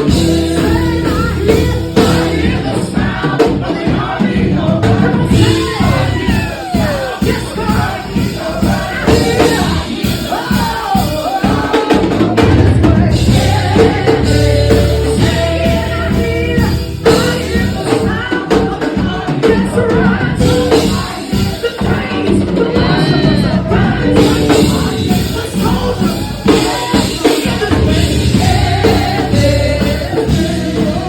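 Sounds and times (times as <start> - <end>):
gospel band music: 0.0 - 31.0
people singing: 0.0 - 31.0.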